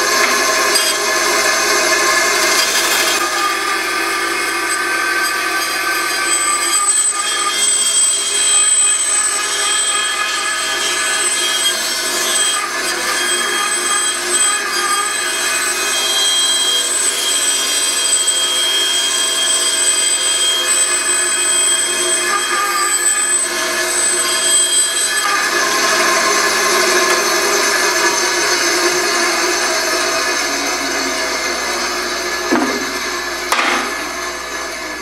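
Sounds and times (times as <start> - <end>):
bandsaw cutting wood: 0.0 - 35.0.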